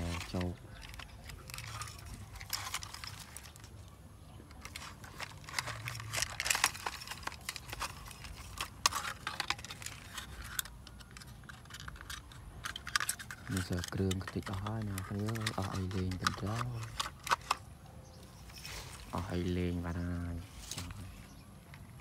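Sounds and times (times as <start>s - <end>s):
plastic toy parts clattering: 0.0s - 17.7s.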